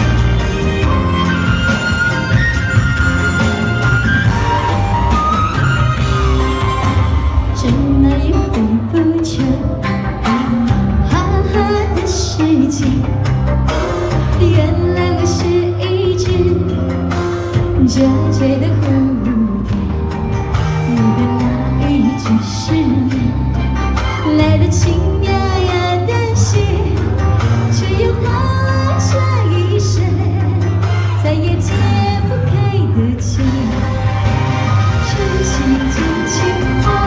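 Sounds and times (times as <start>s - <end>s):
backing track with steady beat: 0.0s - 37.0s
person singing pop song: 0.0s - 37.0s.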